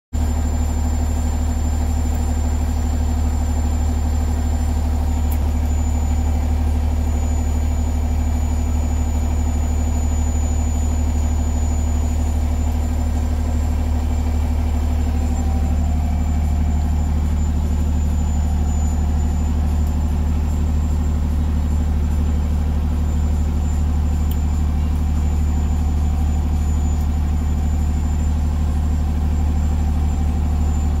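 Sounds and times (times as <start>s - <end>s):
diesel engine idling: 0.2s - 31.0s.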